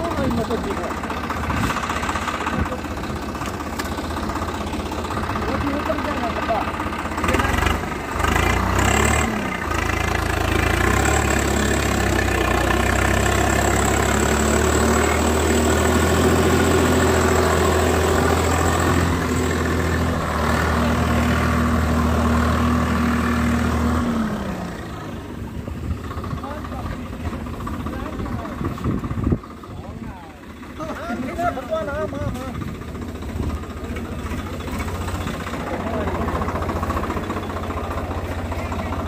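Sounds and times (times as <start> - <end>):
tractor diesel engine droning: 0.0 - 39.0.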